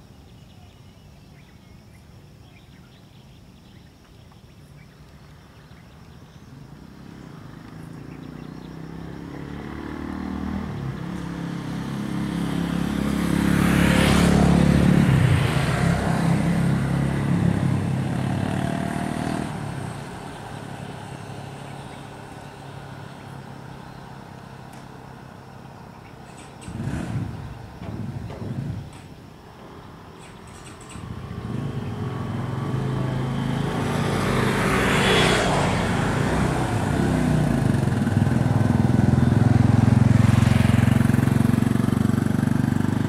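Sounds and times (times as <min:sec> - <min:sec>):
motor vehicle passing by: 0:05.3 - 0:43.0.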